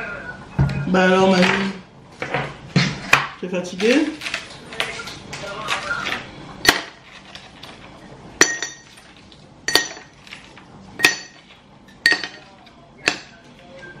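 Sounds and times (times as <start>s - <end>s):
kitchenware clinking: 0.6s - 13.8s.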